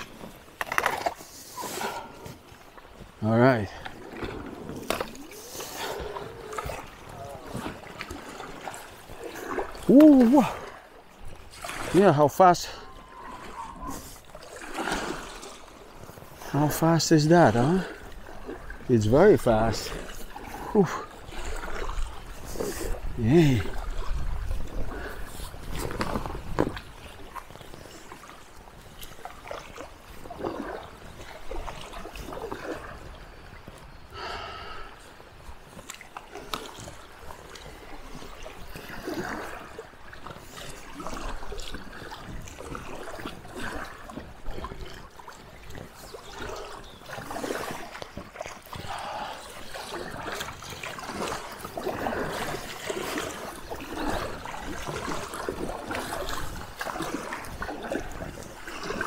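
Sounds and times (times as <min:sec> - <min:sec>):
stream water gurgling and splashing: 0:00.0 - 0:59.0.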